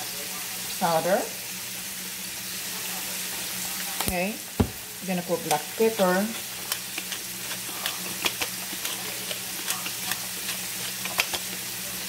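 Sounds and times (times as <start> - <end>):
shrimp sizzling in butter: 0.0 - 12.0.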